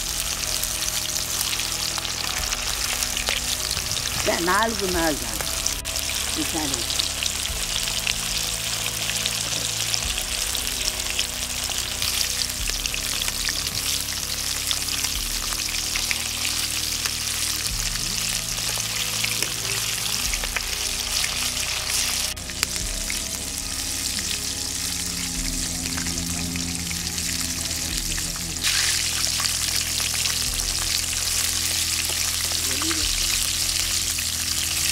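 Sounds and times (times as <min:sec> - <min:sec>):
chicken deep-frying in oil: 0:00.0 - 0:34.9.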